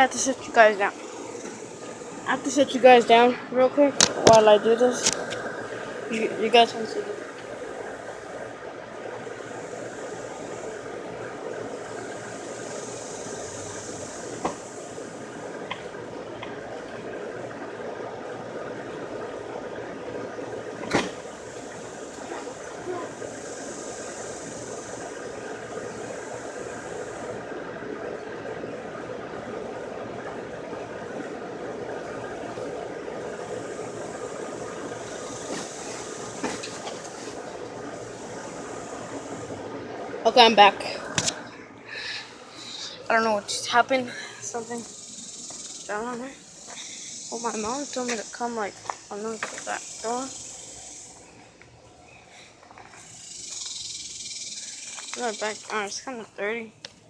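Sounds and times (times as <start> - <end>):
high hiss: 0.0 - 56.7.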